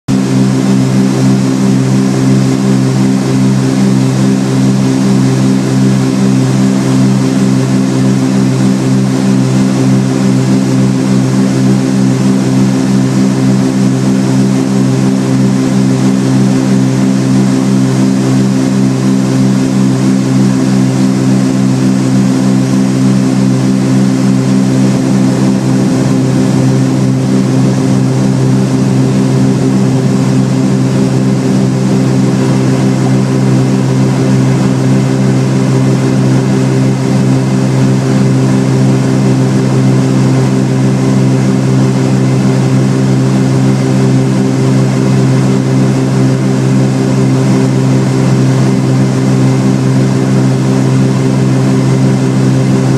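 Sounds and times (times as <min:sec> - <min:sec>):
propeller plane engines droning: 0:00.1 - 0:52.9.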